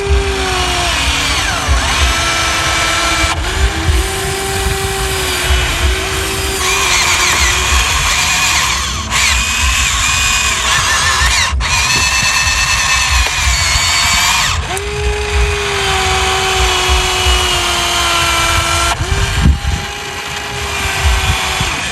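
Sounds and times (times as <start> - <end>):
toy electric motors whining: 0.0 - 21.9.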